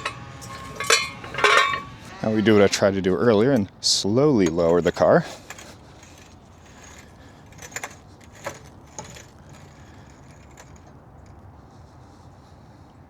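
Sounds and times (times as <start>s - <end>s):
jack clicking and rattling: 0.0s - 11.5s.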